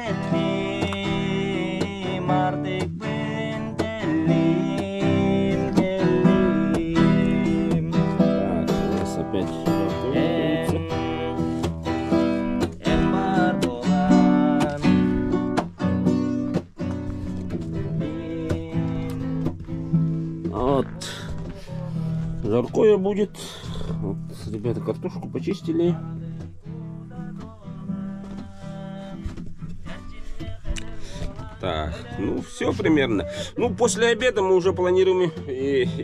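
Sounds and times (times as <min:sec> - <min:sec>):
acoustic guitar strumming chords: 0:00.0 - 0:36.0.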